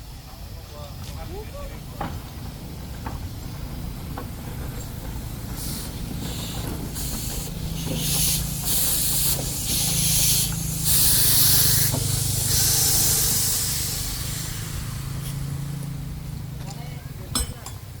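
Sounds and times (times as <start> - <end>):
steam bursts hissing: 1.5 - 16.6.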